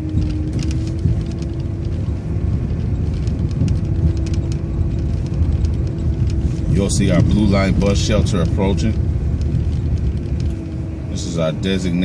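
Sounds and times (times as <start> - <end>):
bus engine rumbling: 0.0 - 12.0
light clicks and rattles: 0.0 - 12.0.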